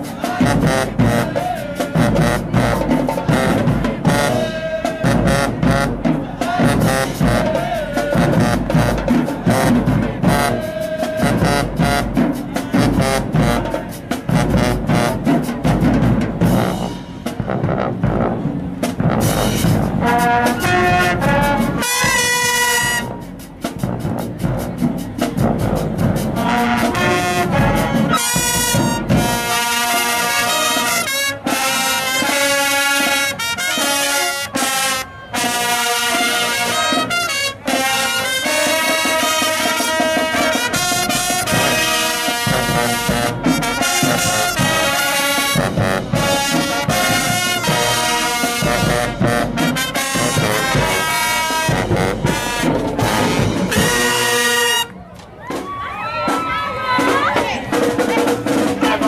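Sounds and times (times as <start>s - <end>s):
marching band brass playing: 0.0s - 59.0s.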